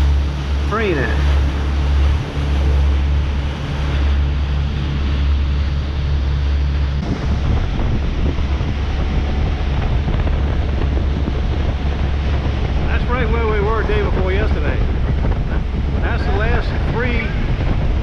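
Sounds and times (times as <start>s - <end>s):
boat engine low rumble: 0.0s - 18.0s
water rushing from hull: 0.0s - 18.0s
wind buffeting microphone: 0.0s - 18.0s.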